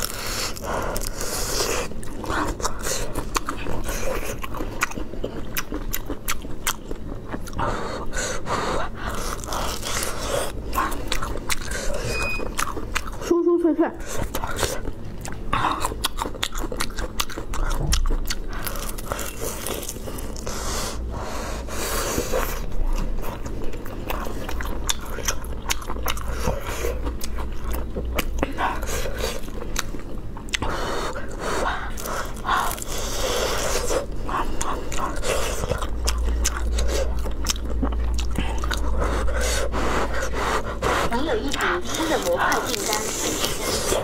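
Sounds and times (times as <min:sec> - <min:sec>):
crunching bites and chewing: 0:00.0 - 0:13.3, 0:14.1 - 0:21.1, 0:21.8 - 0:40.4.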